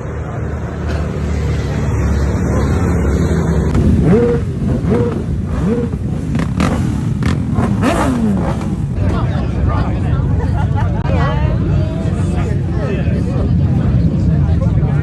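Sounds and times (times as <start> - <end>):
motorcycle engines rumbling: 0.0 - 15.0
motorcycle revving: 0.0 - 15.0.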